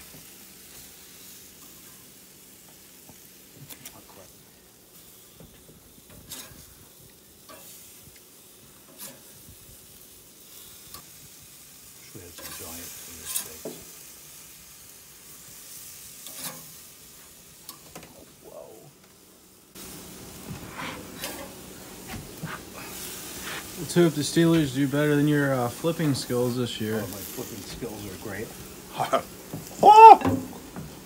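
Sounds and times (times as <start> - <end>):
spatula scraping grill grates: 0.0 - 18.4, 19.2 - 29.8
fish steaks sizzling on grill: 0.0 - 31.0.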